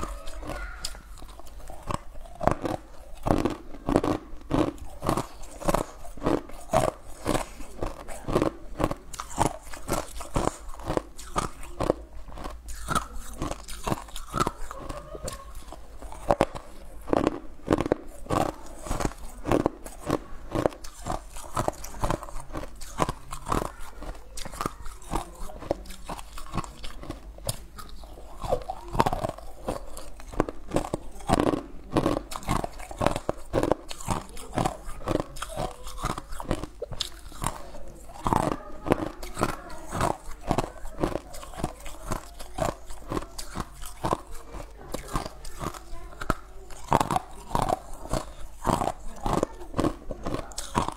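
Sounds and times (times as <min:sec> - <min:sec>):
ice crunched between teeth: 0:00.0 - 0:50.9.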